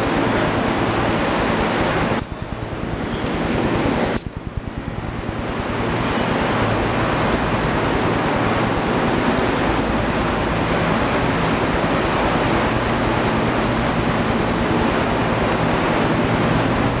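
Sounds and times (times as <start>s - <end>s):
waiting hall ambience roar: 0.0s - 17.0s.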